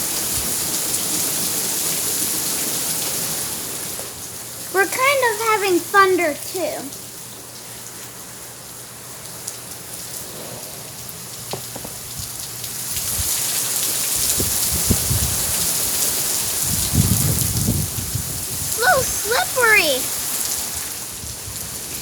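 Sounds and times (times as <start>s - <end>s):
heavy rain splashing on surfaces: 0.0s - 22.0s.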